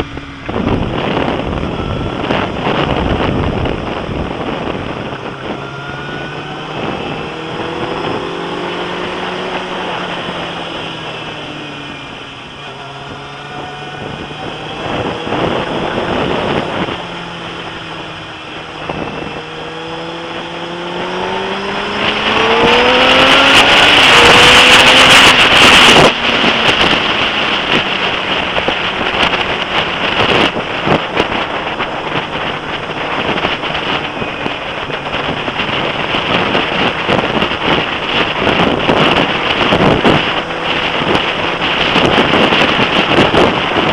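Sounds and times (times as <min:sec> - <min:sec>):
motorcycle engine accelerating: 0:00.0 - 0:43.9
wind rushing over microphone: 0:00.0 - 0:43.9.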